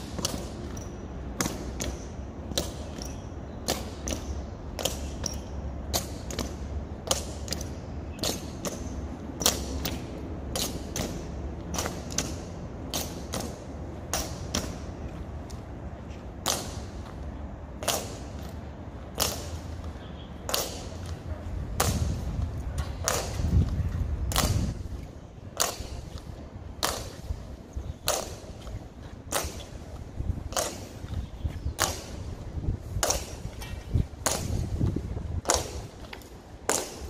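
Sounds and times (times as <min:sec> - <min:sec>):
boots marching on pavement: 0:00.0 - 0:37.0.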